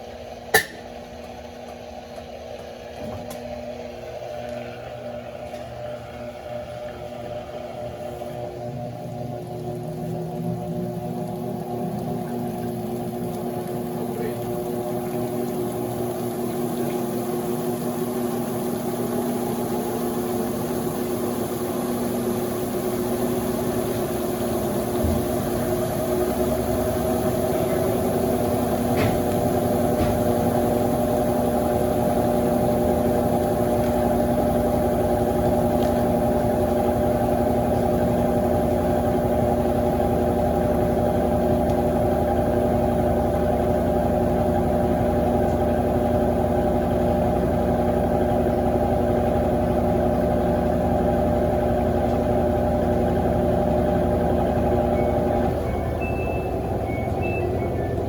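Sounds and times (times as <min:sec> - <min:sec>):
washing machine drain pump humming: 0:00.0 - 0:58.0.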